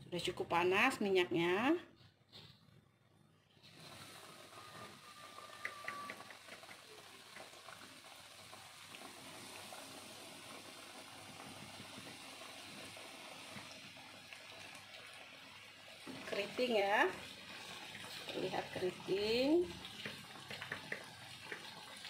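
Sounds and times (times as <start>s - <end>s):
chicken sizzling in hot oil: 3.6s - 22.0s.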